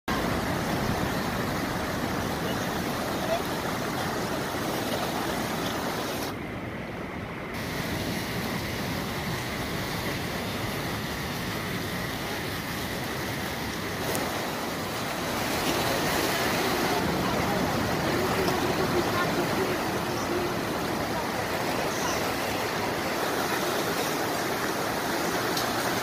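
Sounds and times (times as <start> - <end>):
river rushing: 0.1 - 26.0.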